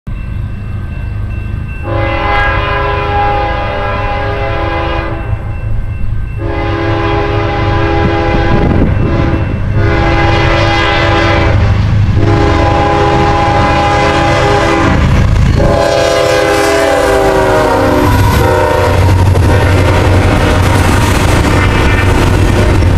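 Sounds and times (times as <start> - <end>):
locomotive engines rumbling: 0.1 - 22.9
train on rails: 0.1 - 22.9
locomotive air horn blasts: 1.8 - 5.5, 6.4 - 22.9.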